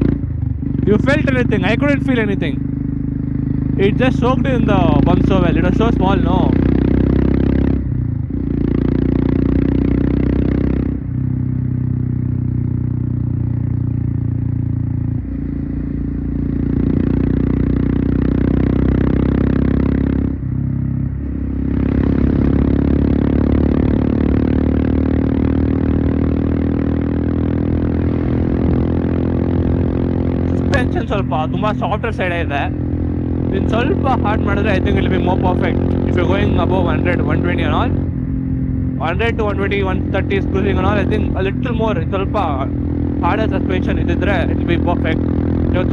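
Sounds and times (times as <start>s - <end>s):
motorcycle engine exhaust note: 0.0s - 45.9s.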